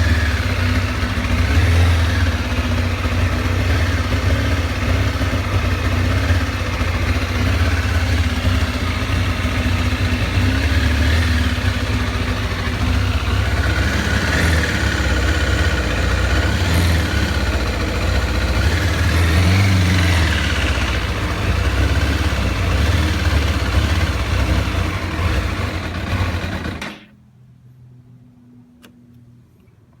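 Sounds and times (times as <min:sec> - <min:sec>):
motorcycle engine idling roughly: 0:00.0 - 0:27.1.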